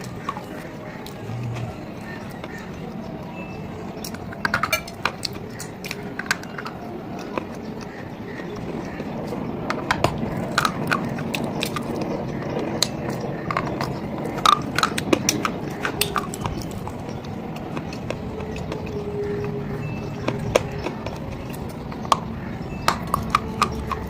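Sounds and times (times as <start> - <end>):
biting and chewing stone: 4.0 - 24.0.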